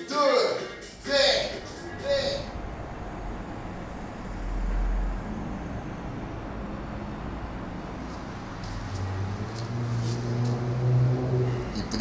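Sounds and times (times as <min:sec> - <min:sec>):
engine hum: 0:00.6 - 0:12.0
road vehicle rumble: 0:00.6 - 0:12.0.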